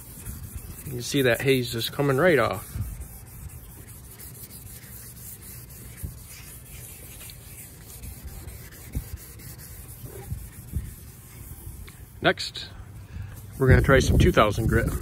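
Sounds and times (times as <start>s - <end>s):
sandpaper scuffing plastic: 0.0s - 12.2s.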